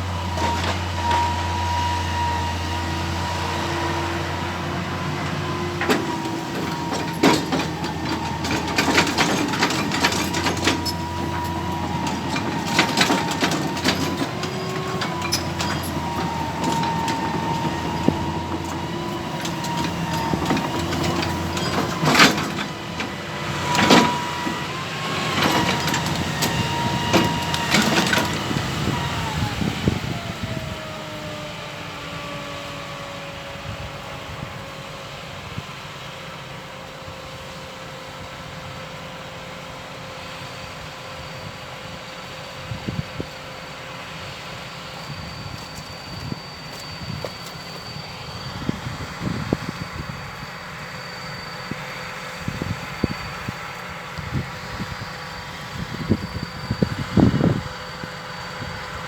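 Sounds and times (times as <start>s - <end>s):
excavator diesel engine: 0.0s - 59.0s
hydraulic whine: 0.0s - 59.0s.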